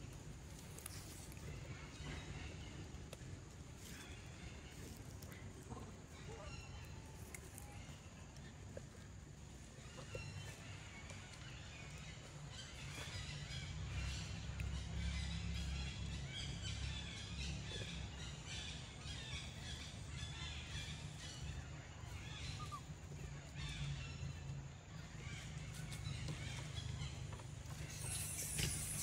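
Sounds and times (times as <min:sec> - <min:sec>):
birds chirping and calling: 0:00.5 - 0:29.0.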